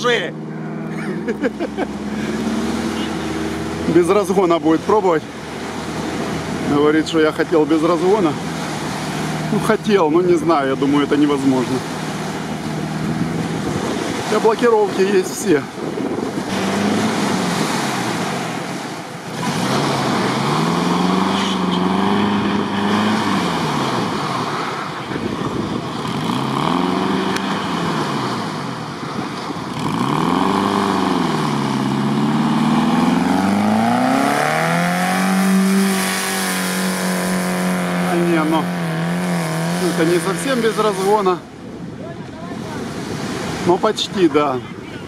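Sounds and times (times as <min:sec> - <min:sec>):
off-road vehicle engine revving: 0:00.0 - 0:41.8.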